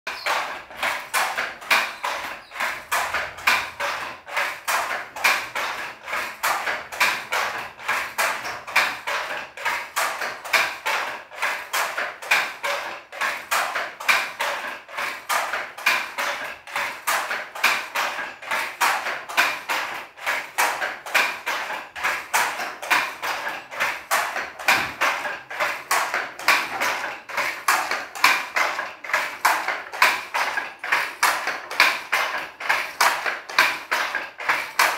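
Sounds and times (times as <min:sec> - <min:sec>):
wooden handloom clacking: 0:00.1 - 0:34.9.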